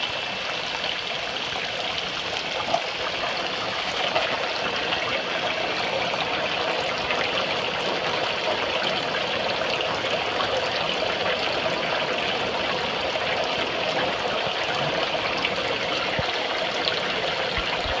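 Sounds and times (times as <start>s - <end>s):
water running into a tank: 0.0s - 18.0s.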